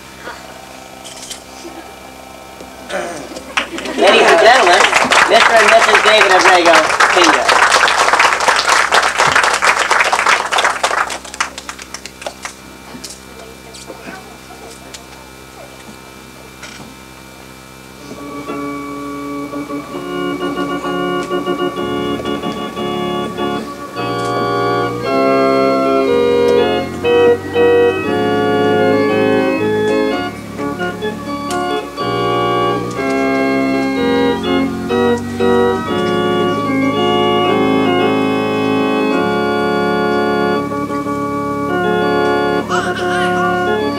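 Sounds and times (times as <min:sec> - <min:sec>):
organ playing held chords: 0:00.0 - 0:43.9.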